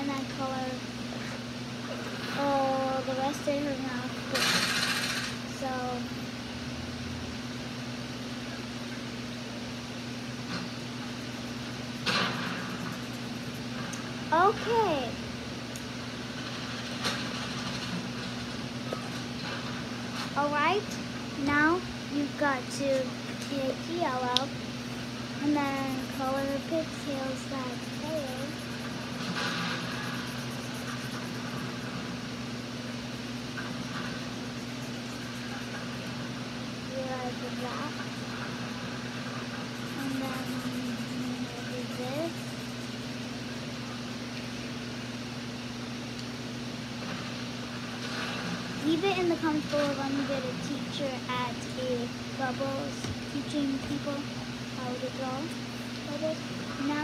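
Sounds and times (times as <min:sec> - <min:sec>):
constant hiss: 0:00.0 - 0:57.0
low mechanical hum: 0:00.0 - 0:57.0.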